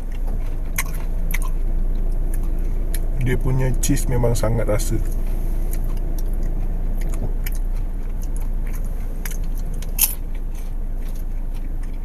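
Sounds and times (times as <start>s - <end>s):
chewing popcorn: 0.0s - 12.0s
low hum of car cabin: 0.0s - 12.0s.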